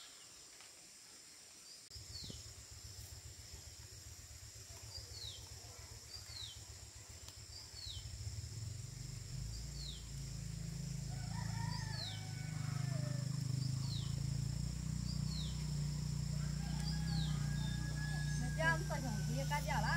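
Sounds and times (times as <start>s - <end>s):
insects droning: 0.0s - 19.9s.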